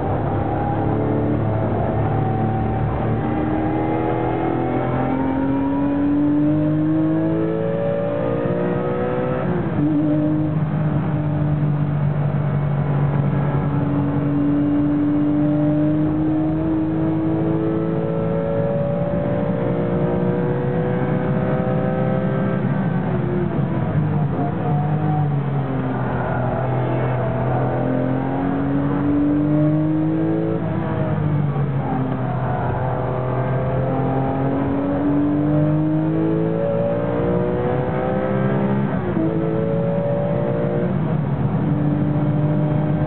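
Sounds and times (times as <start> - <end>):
race car engine accelerating: 0.0 - 43.0.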